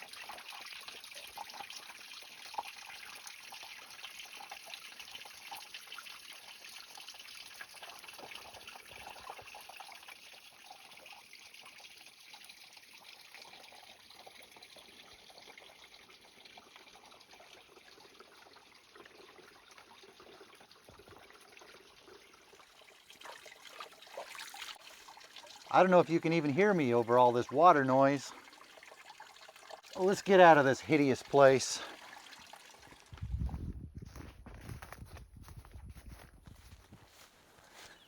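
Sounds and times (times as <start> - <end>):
creek water running: 0.0 - 34.2, 34.8 - 38.0.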